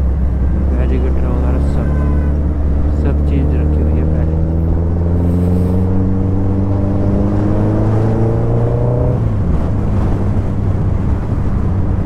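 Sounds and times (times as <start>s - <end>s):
wind and road rush: 0.0s - 12.0s.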